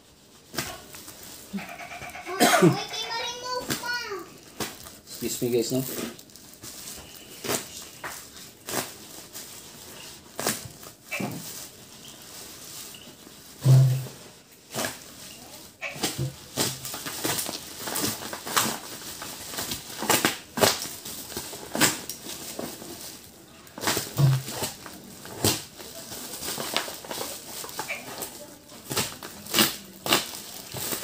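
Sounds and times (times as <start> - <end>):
bubble wrap crinkling: 0.0 - 31.0.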